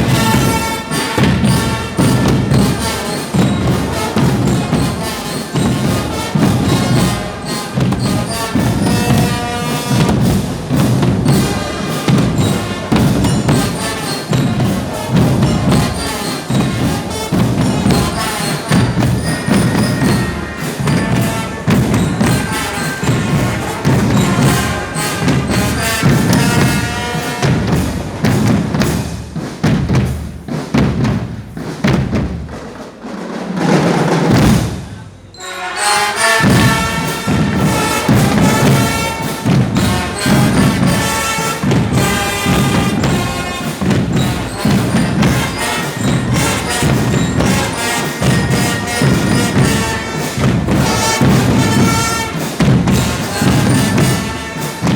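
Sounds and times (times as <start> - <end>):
thumping drum beat: 0.0 - 35.1, 36.1 - 54.9.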